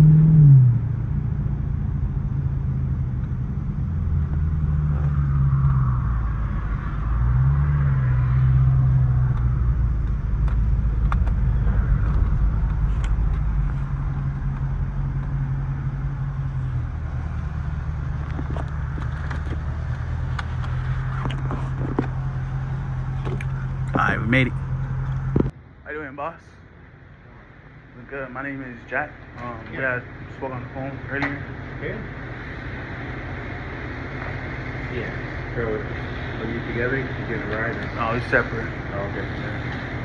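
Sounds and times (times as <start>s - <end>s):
car engine idling: 0.0s - 25.9s, 26.7s - 40.0s.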